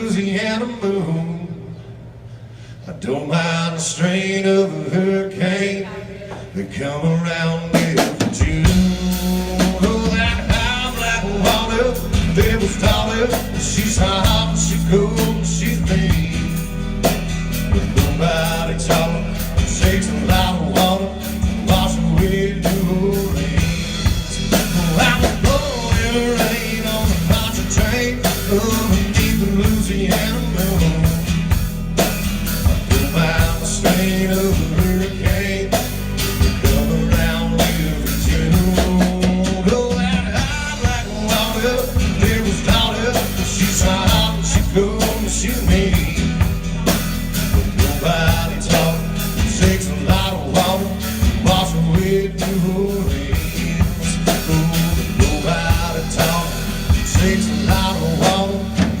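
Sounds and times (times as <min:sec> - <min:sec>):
person singing: 0:03.0 - 0:31.5, 0:32.8 - 0:59.0
live rock band playing: 0:07.7 - 0:59.0.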